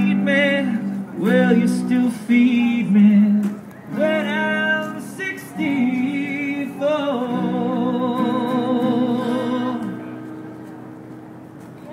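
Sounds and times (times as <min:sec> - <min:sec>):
man singing: 0:00.0 - 0:10.0
acoustic guitar: 0:00.0 - 0:11.9.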